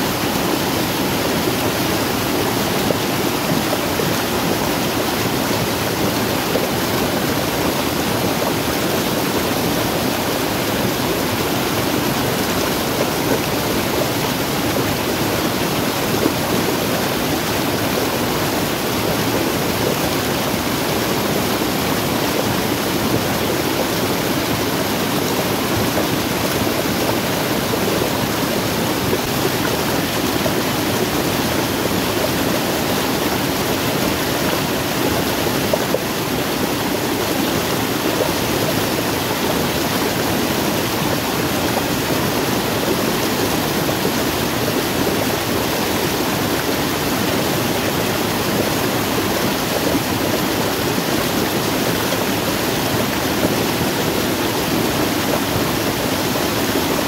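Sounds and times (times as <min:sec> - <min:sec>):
water rushing over rock: 0:00.0 - 0:57.0.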